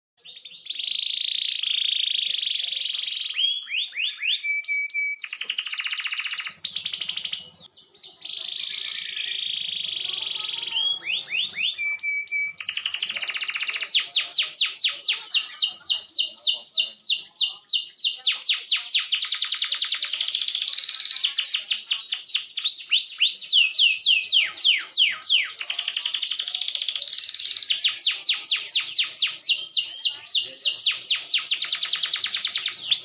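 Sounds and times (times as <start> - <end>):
canary singing: 0.2 - 33.0.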